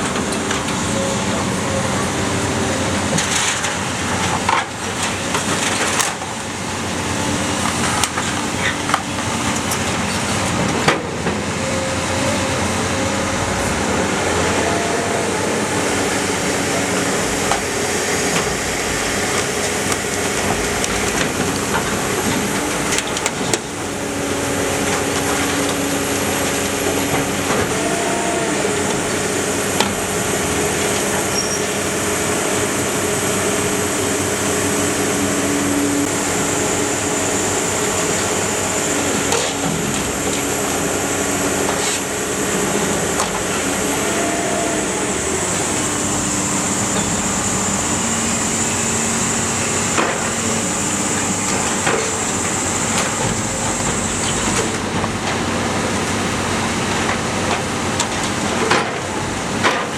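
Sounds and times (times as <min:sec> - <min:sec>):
car baler drone: 0:00.0 - 0:59.9.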